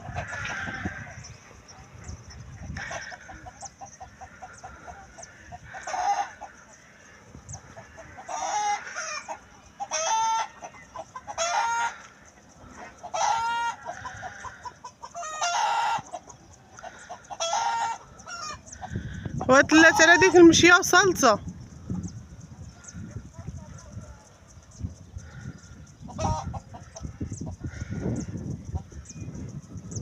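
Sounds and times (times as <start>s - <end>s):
chickens calling: 0.0s - 30.0s.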